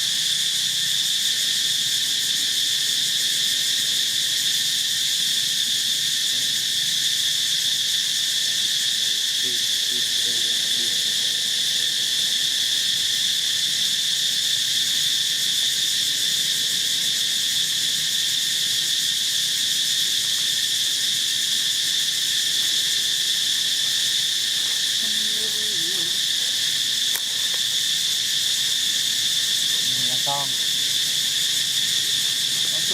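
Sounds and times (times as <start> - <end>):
high-pitched insect chorus: 0.0 - 32.9.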